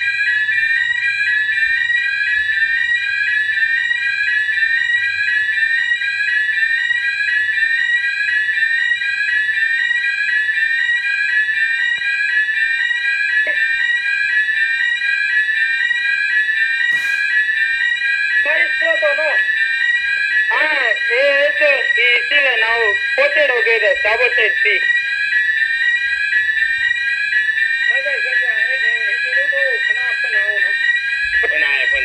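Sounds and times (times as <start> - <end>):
electronic alarm sweep tone: 0.0 - 32.0.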